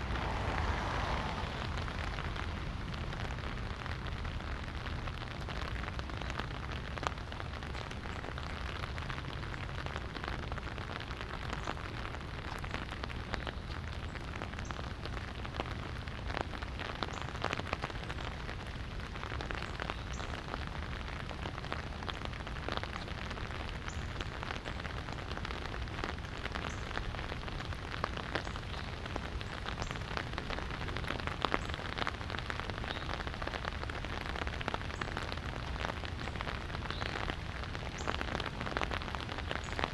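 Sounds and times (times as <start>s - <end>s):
light rain falling: 0.0s - 39.9s
raindrop taps and drips: 0.0s - 39.9s.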